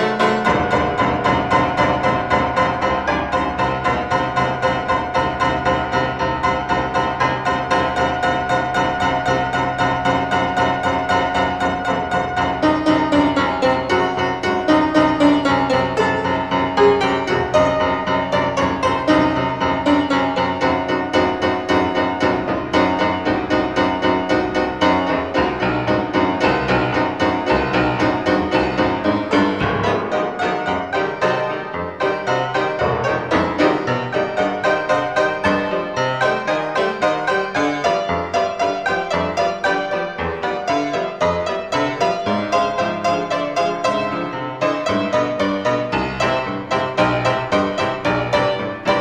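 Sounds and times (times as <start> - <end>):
solo piano playing fast notes: 0.0 - 49.0.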